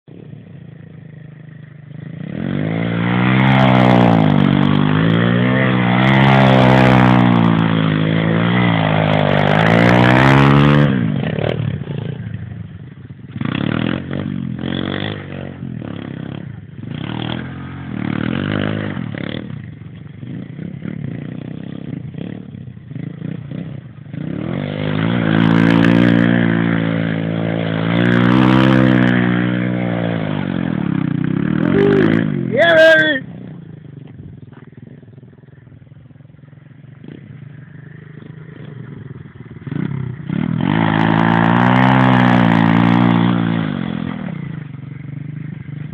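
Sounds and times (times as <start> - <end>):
pit bike engine revving: 0.1 - 45.9.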